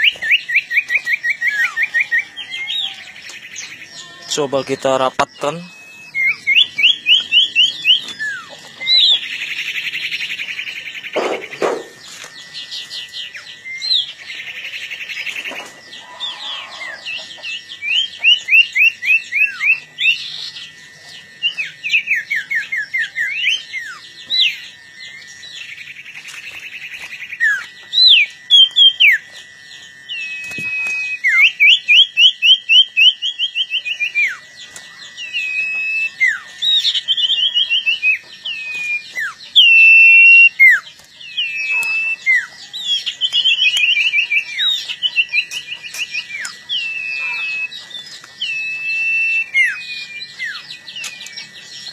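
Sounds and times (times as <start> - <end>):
harsh buzzy bird chatter: 0.0 - 51.9
songbirds whistling and trilling: 0.0 - 51.9.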